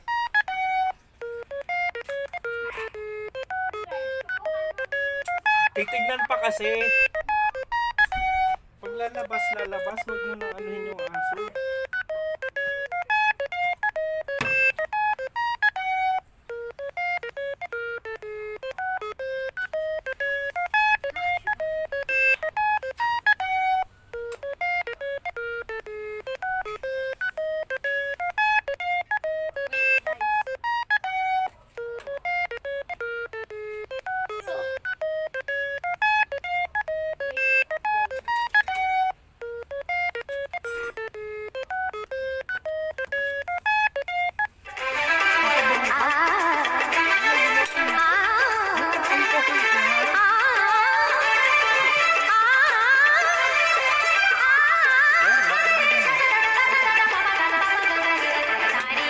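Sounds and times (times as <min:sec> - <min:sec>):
beeping electronic melody: 0:00.0 - 0:58.8.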